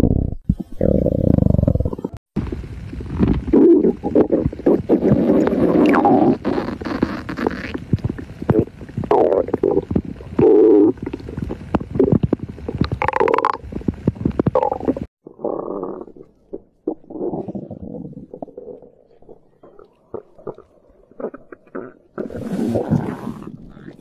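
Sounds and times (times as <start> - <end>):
stomach gurgling and rumbling: 0.0 - 24.0.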